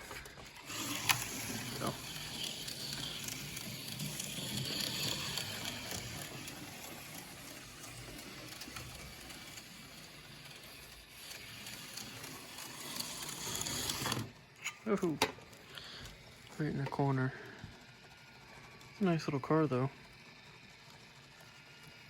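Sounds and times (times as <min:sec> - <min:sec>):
gears chattering: 0:00.0 - 0:22.0
slot car motor whirring: 0:00.0 - 0:22.0.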